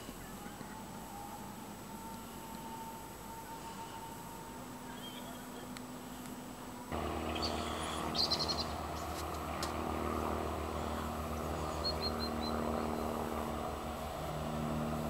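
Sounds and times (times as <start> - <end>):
birds chirping: 0.0 - 15.0
distant engine drone: 0.0 - 15.0.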